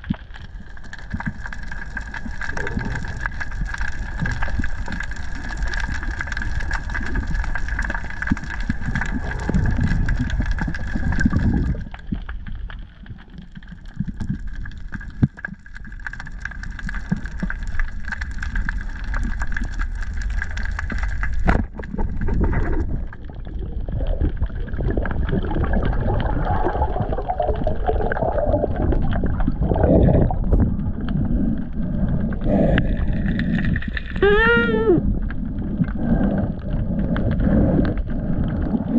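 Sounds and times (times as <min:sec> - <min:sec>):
underwater rumble: 0:00.0 - 0:38.9
water bubbling: 0:00.0 - 0:38.9.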